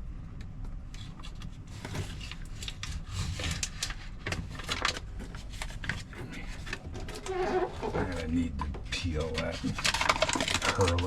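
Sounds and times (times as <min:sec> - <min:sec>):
foil sheet crinkling: 0:01.7 - 0:11.0.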